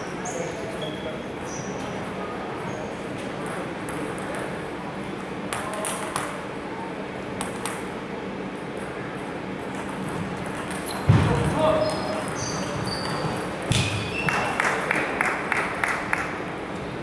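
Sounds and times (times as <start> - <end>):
sports hall background noise: 0.0 - 17.0.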